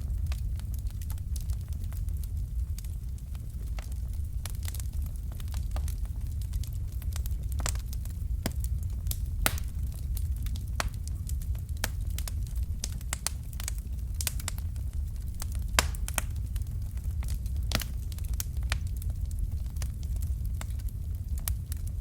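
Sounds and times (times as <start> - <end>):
fireplace fire crackling: 0.0 - 22.0.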